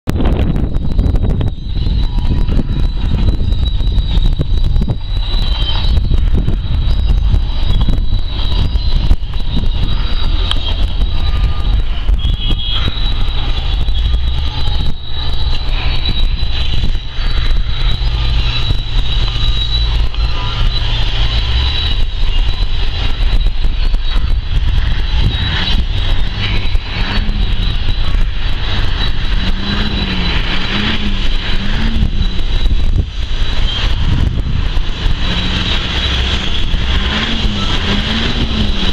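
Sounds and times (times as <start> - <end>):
high whine: 0.0 - 38.9
machinery low rumble: 0.1 - 38.9
wavering rising and falling tone: 0.1 - 38.9.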